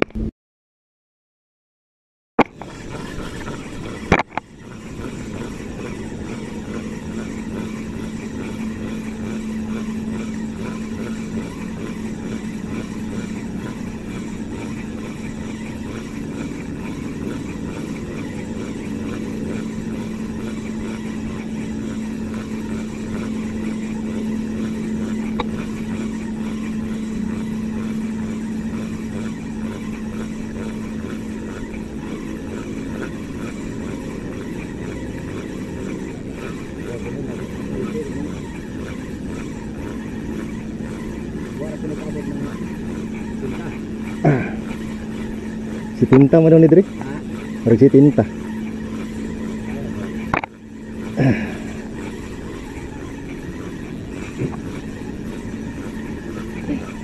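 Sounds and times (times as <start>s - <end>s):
boat engine droning: 2.4s - 57.0s.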